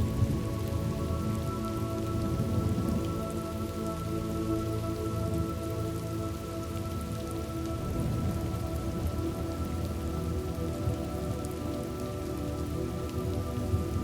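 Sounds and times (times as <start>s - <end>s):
soft drone of sustained tones: 0.0s - 14.0s
steady rain: 0.0s - 14.0s.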